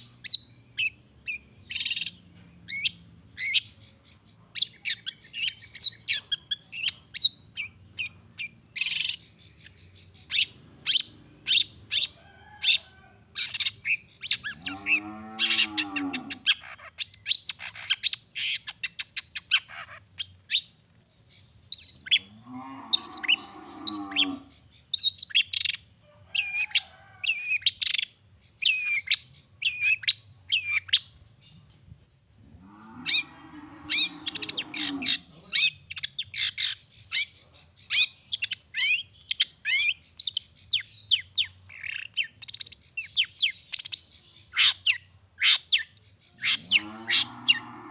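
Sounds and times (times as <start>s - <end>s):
bird chirping and squawking: 0.0s - 31.8s, 32.6s - 47.9s.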